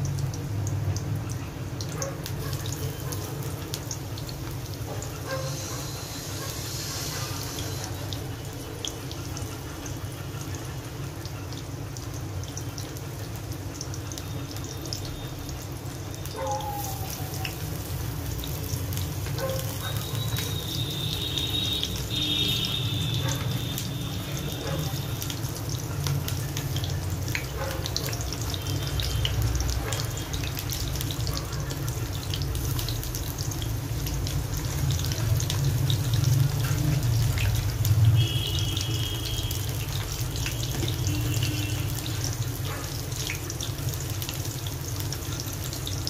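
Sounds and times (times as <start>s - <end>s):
food sizzling in hot oil: 0.0s - 46.0s
oil popping and crackling: 0.0s - 46.0s.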